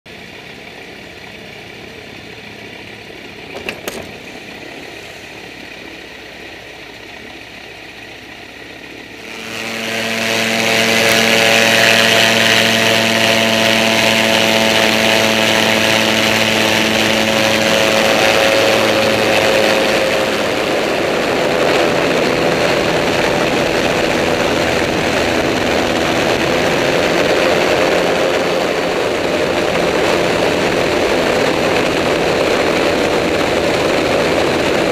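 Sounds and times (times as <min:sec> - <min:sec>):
engine and propeller running: 0:00.0 - 0:34.9.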